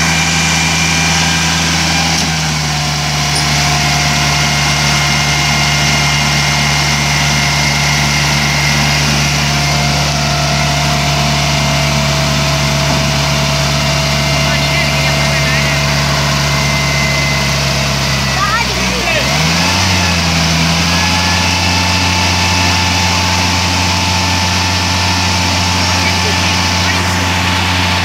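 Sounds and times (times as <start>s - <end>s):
steady whine: 0.0s - 28.0s
truck engine idling: 0.0s - 28.0s.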